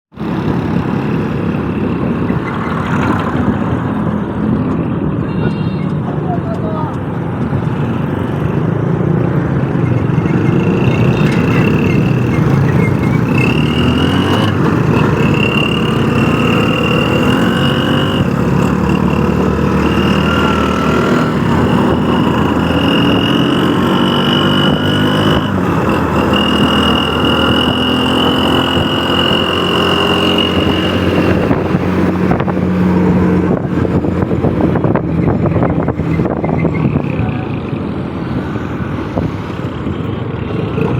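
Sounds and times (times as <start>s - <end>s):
vehicle engine rumble: 0.1s - 40.9s.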